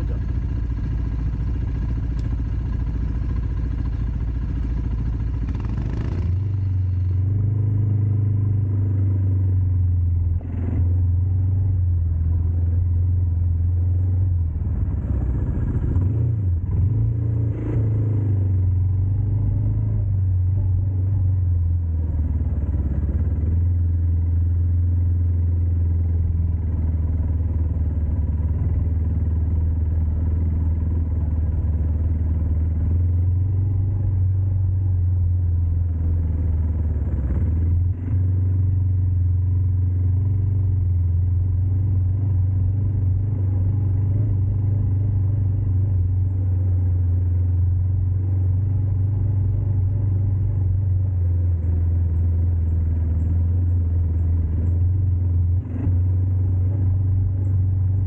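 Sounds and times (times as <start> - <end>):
atv engine humming: 0.0 - 58.0.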